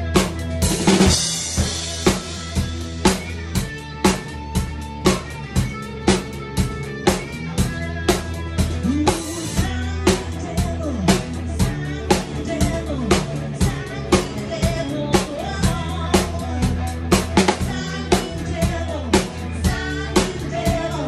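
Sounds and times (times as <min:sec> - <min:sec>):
rock drum beat: 0:00.0 - 0:21.0
sustained bass notes: 0:00.0 - 0:21.0.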